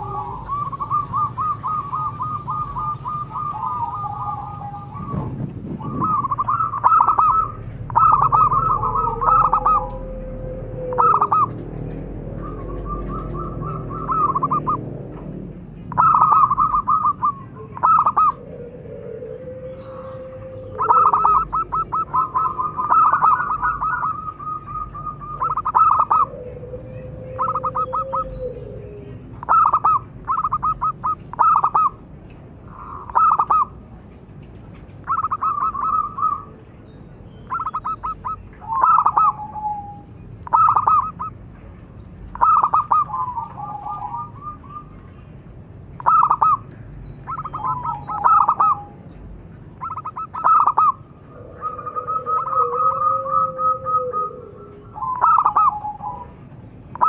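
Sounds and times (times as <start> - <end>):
dove cooing: 0.0 - 32.0, 32.6 - 34.0, 35.0 - 36.6, 37.4 - 41.4, 42.3 - 45.2, 45.9 - 57.0.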